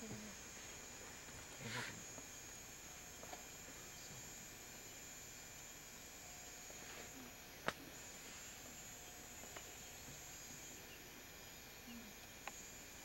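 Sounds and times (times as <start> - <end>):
night insects chirring: 0.0 - 13.0.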